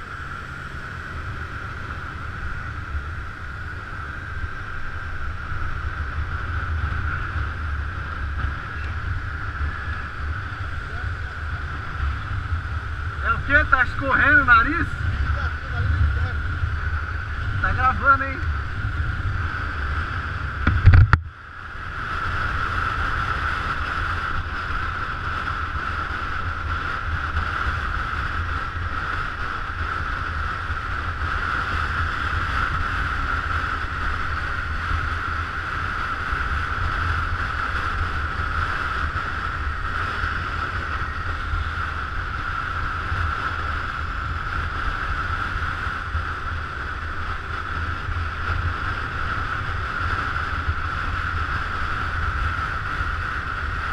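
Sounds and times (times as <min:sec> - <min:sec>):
scooter rumble and hum: 0:00.0 - 0:53.9
wind on microphone: 0:00.0 - 0:53.9.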